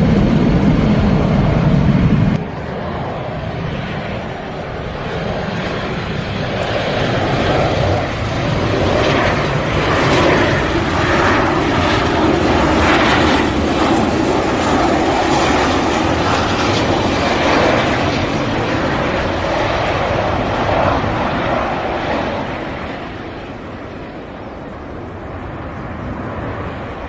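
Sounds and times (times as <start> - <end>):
airplane engine: 0.0 - 27.0.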